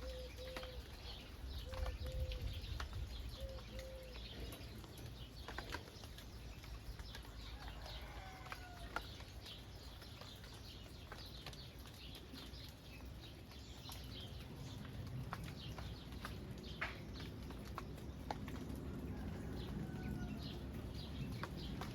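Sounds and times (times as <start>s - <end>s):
light rain falling: 0.0s - 21.9s
small birds chirping: 0.0s - 21.9s.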